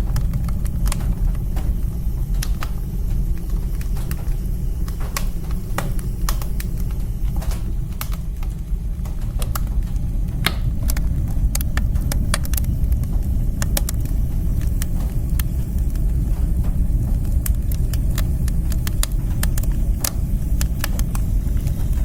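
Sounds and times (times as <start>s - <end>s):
fire flames rumbling: 0.0s - 22.0s
wood crackling and popping: 0.0s - 22.0s.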